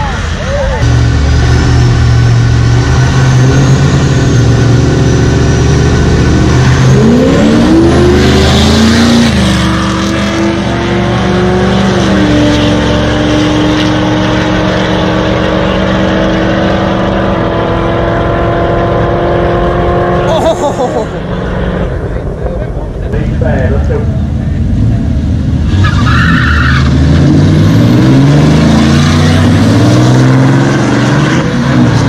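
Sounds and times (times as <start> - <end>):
drag racing car engines: 0.0 - 32.0.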